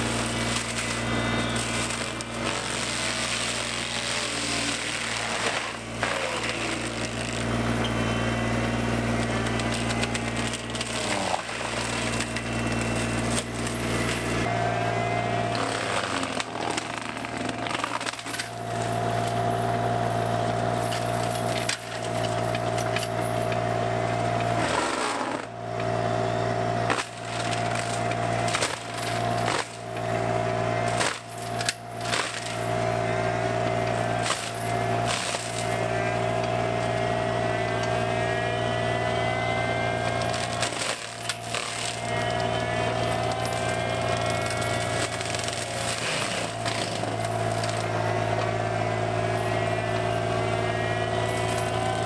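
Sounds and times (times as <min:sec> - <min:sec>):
diesel engine running: 0:00.0 - 0:52.0
drum mulcher humming: 0:00.0 - 0:52.0
rising machine whine: 0:00.0 - 0:52.0.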